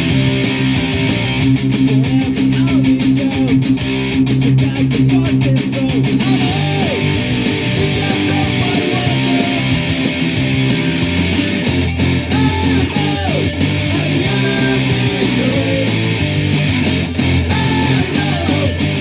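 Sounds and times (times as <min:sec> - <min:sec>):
electric guitar strumming chords: 0:00.0 - 0:19.0.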